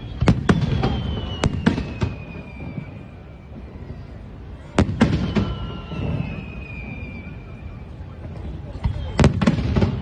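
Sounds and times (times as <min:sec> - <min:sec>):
fireworks bursting with sharp bangs: 0:00.0 - 0:10.0.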